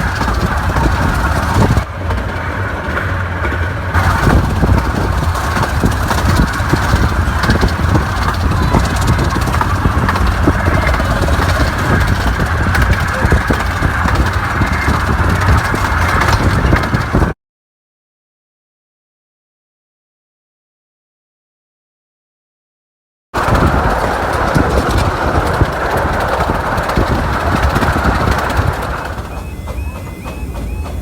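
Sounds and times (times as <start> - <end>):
miniature train rumbling: 0.0 - 17.4, 23.4 - 31.0.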